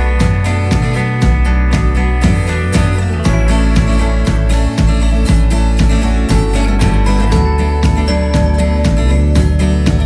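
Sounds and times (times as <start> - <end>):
music with steady beat: 0.0 - 10.0
strummed acoustic guitar: 0.0 - 10.0.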